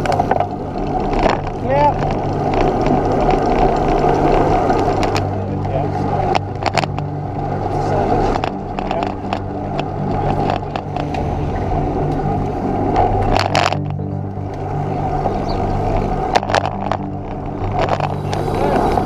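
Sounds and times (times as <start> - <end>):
bicycle rattles and clicks: 0.0 - 19.0
wind noise: 0.0 - 19.0.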